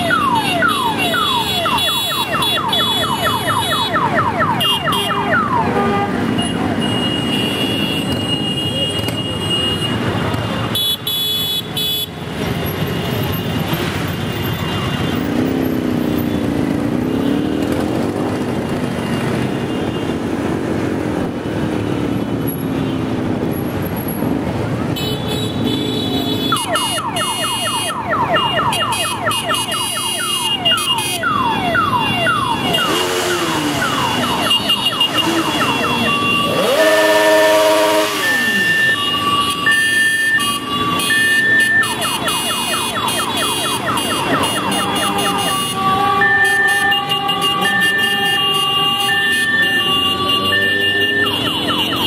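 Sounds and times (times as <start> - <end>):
motorcycle engines revving: 0.0 - 11.0, 11.8 - 52.0.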